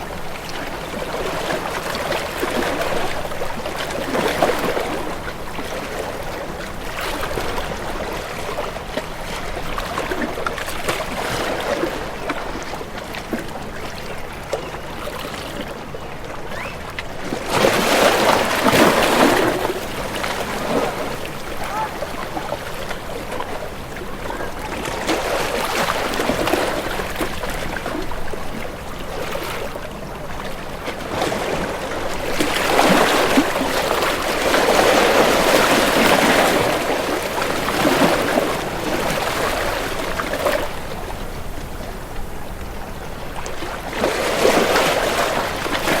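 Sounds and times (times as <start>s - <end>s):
water rushing and splashing: 0.0s - 46.0s.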